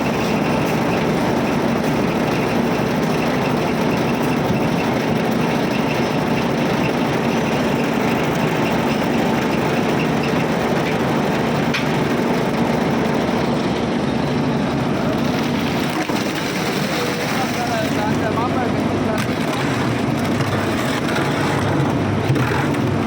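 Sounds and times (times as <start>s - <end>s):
machine engine running: 0.0s - 23.0s.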